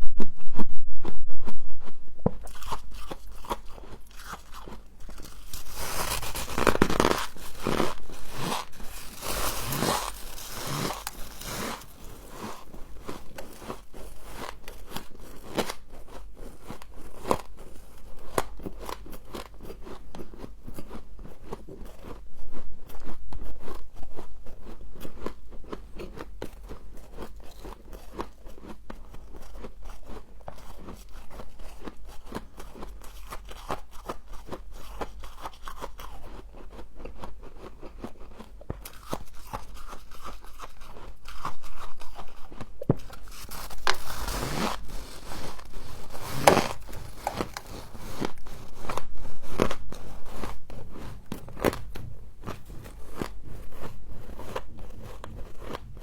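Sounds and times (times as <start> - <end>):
crunching and chewing frost: 2.2 - 56.0.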